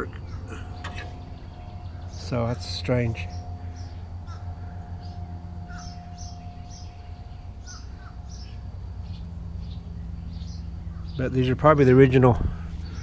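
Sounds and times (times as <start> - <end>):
faint steady tone: 0.0 - 11.3
small birds chirping: 0.0 - 13.0
steady low hum: 0.0 - 13.0.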